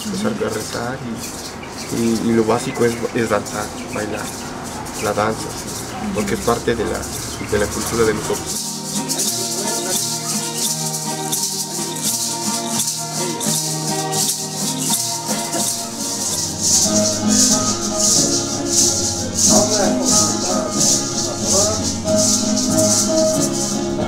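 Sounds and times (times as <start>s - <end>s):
instruments playing held notes: 0.0s - 24.0s
hand rattles shaken: 0.1s - 24.0s.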